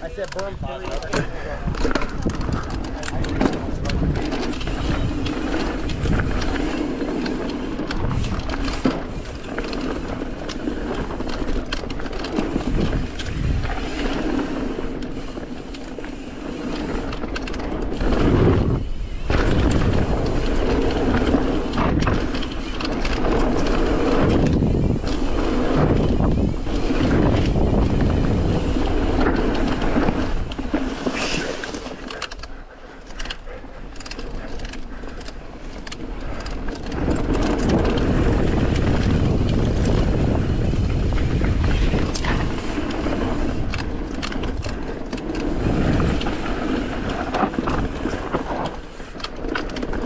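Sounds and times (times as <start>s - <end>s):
bike rattling over bumps: 0.0s - 50.0s
bike tyres crunching on dirt: 0.0s - 50.0s.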